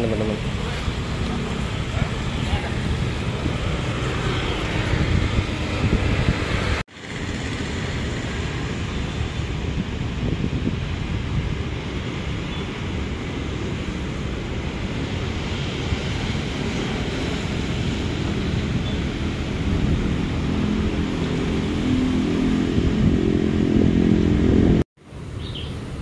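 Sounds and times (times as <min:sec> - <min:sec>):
traffic: 0:00.0 - 0:26.0
vehicle engine hum: 0:00.0 - 0:26.0
wind noise on microphone: 0:00.0 - 0:26.0.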